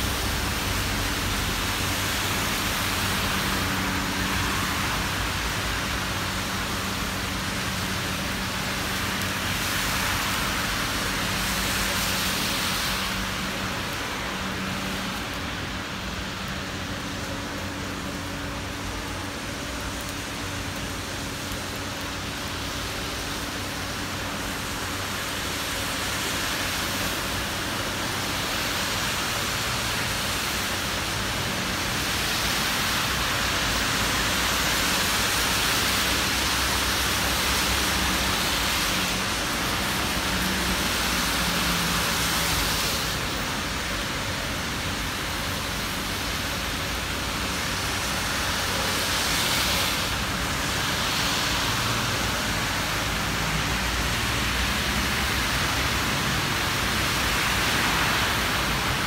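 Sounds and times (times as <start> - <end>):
cars driving on wet road: 0.0 - 59.0
rain hissing: 0.0 - 59.0.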